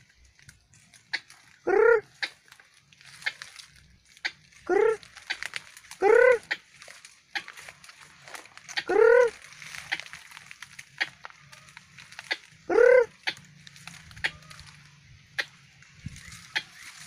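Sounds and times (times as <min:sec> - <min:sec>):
dry leaves crackling: 0:00.0 - 0:17.0
bird croaking calls: 0:00.8 - 0:17.0.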